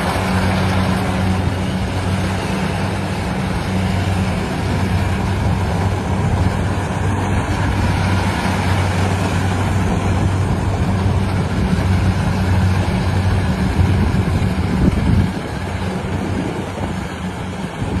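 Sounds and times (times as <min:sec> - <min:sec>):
harvester engine humming: 0:00.0 - 0:18.0.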